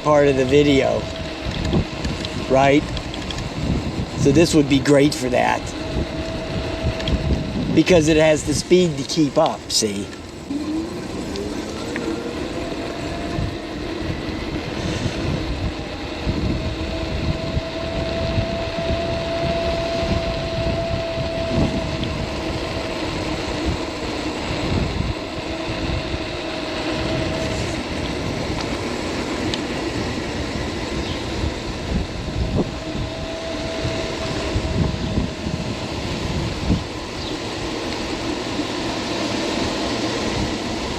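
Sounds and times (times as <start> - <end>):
electric motor hum and whine: 0.0 - 40.9
wind rumble: 0.0 - 40.9.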